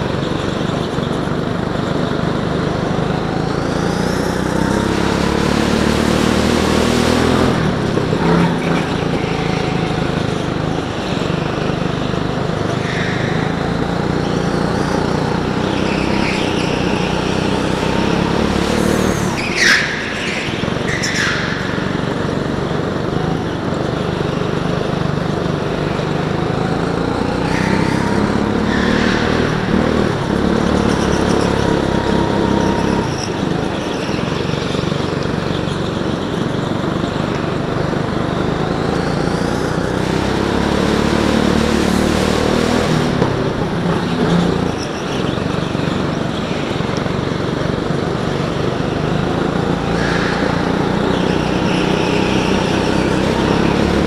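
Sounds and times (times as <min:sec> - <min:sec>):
go-kart engine revving: 0:00.0 - 0:54.0
karts running in background: 0:00.0 - 0:54.0.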